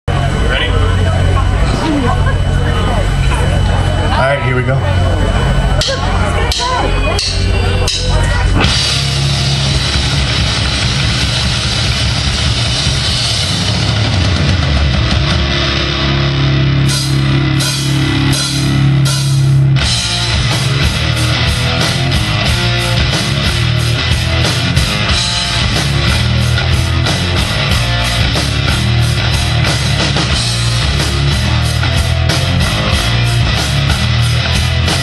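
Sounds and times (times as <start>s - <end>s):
rock band playing: 0.1s - 35.0s.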